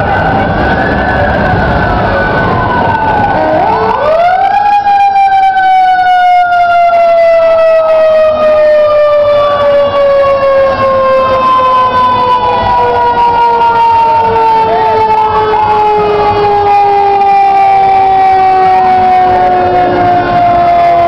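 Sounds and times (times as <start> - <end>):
faint sirens rising and falling: 0.0 - 21.0
fire engine siren wailing: 0.0 - 21.0.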